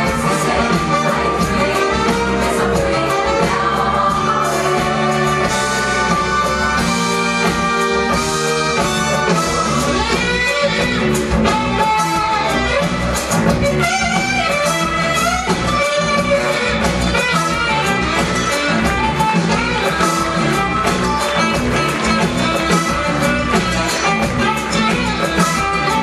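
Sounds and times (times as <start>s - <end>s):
music with steady beat: 0.0s - 26.0s.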